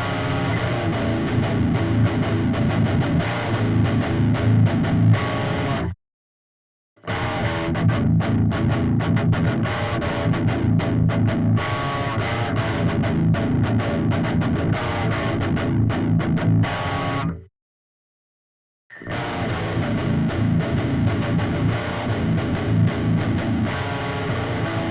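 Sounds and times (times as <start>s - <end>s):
distorted electric guitar riff: 0.0s - 6.0s, 7.0s - 17.5s, 18.9s - 24.9s.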